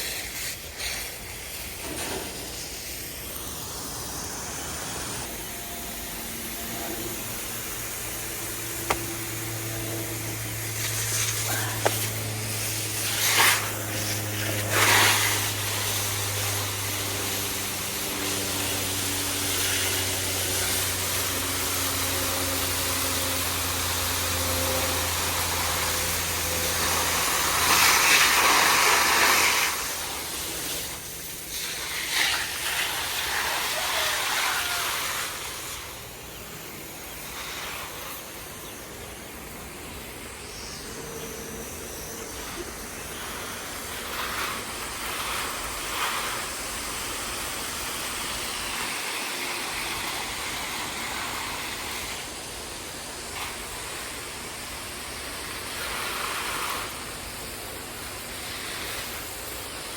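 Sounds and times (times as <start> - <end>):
steady hissing noise: 0.0 - 59.9.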